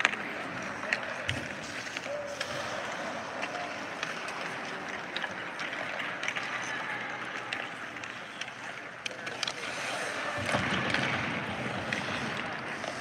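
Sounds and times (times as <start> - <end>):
skate blades scraping ice: 0.0 - 13.0
sticks hitting pucks: 0.0 - 13.0.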